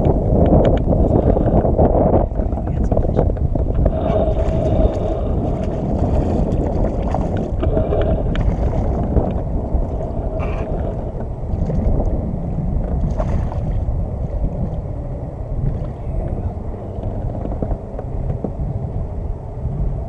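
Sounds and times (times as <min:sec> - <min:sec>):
water lapping against kayak: 0:00.0 - 0:20.0
wind buffeting microphone: 0:00.0 - 0:20.0.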